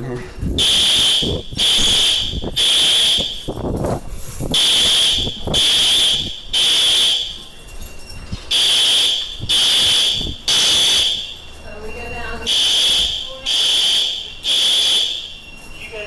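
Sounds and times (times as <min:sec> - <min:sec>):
fire alarm horn blasts: 0:00.5 - 0:03.8, 0:04.4 - 0:16.0.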